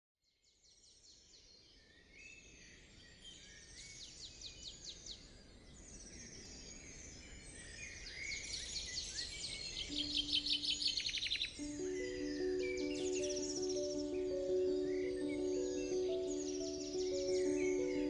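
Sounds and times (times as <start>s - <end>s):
songbirds chirping and trilling: 0.8s - 18.0s.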